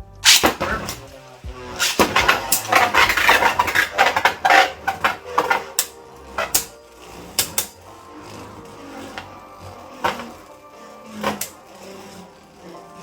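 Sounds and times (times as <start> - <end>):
spinning tops clicking and clattering: 0.2 - 13.0.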